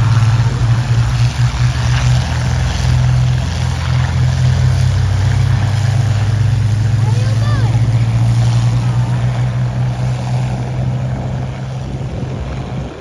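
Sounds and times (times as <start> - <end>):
propeller planes droning overhead: 0.0 - 13.0.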